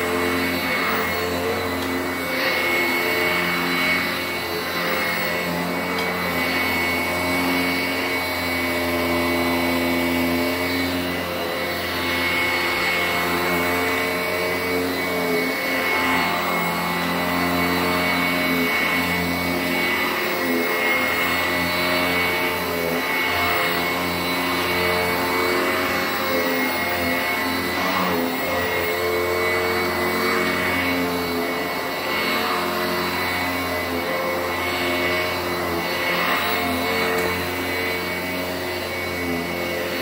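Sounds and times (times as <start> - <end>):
upright vacuum running on carpet: 0.0 - 40.0.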